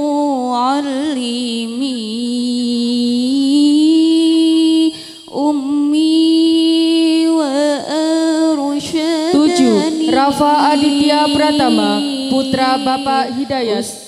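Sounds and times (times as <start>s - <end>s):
person singing devotional song: 0.0s - 14.0s.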